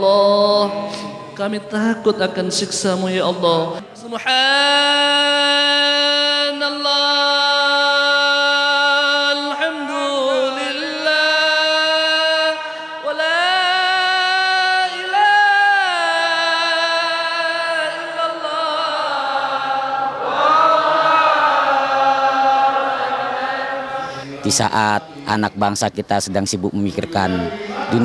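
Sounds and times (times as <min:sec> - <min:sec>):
person chanting melodically: 0:00.0 - 0:25.9, 0:27.0 - 0:28.0.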